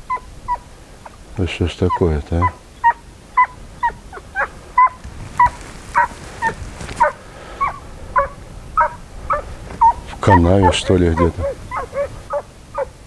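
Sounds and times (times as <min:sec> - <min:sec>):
hound yelping: 0:00.0 - 0:01.2, 0:01.8 - 0:13.0.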